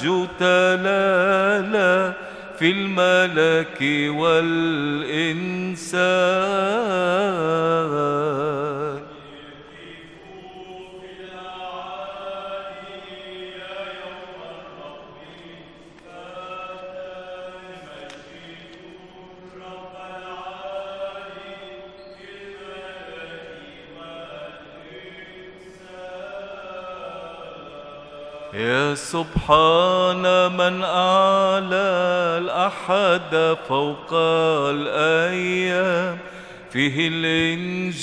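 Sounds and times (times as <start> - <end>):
congregation singing a hymn: 0.0 - 38.0.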